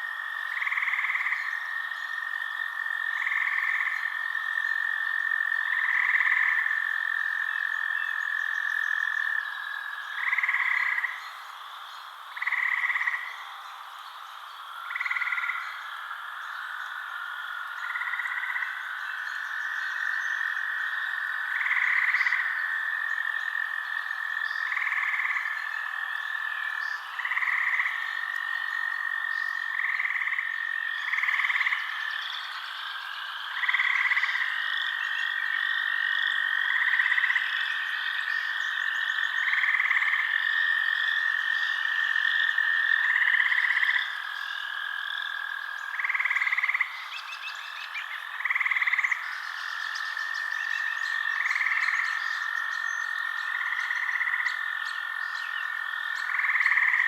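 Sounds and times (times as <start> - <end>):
frogs trilling chorus: 0.0 - 57.0.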